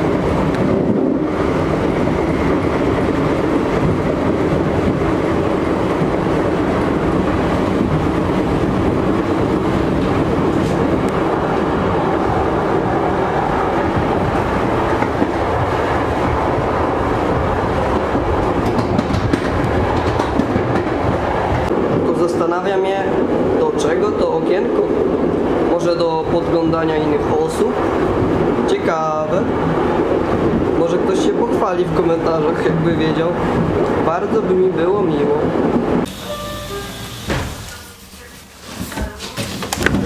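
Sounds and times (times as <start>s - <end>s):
passenger train rumbling: 0.0s - 40.0s.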